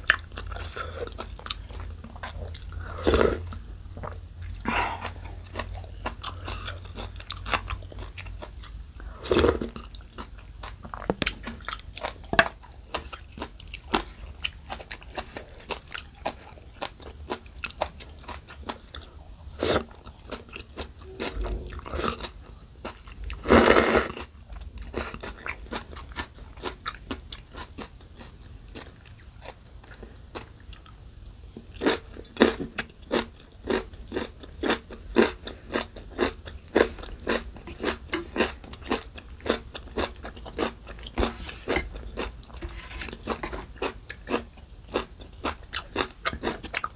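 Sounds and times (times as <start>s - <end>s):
crunching and chewing food: 0.0s - 46.9s.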